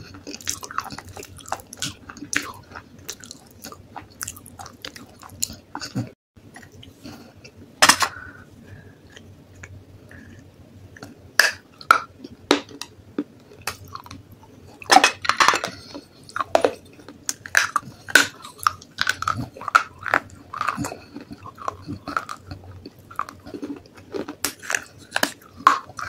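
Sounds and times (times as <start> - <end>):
person crunching and chewing: 0.0 - 26.0.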